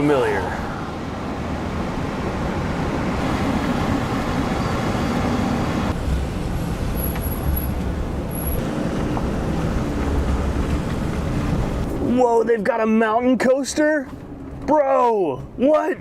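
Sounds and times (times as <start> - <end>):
vehicle driving on road: 0.0 - 15.9.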